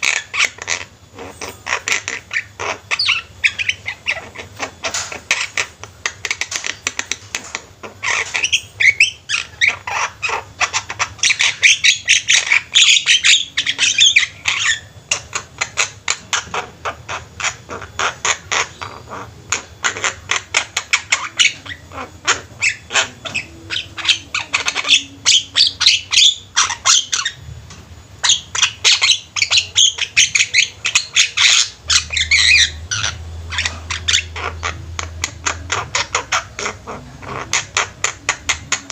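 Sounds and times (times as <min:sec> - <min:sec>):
flock of birds chattering: 0:00.0 - 0:38.9.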